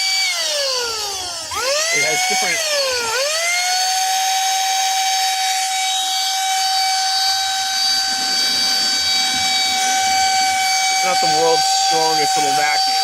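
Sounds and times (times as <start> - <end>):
handheld vacuum whining: 0.0 - 13.0.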